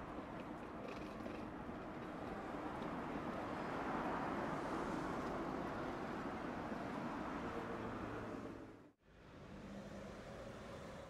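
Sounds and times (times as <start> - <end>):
road noise from passing cars: 0.0 - 11.0.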